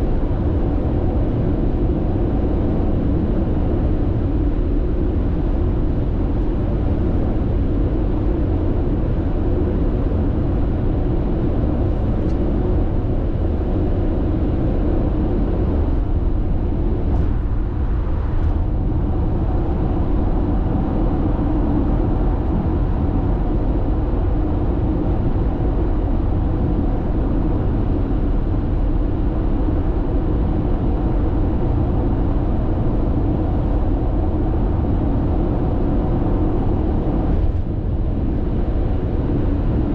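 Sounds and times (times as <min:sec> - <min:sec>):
tyre and road rumble in car: 0:00.0 - 0:39.9.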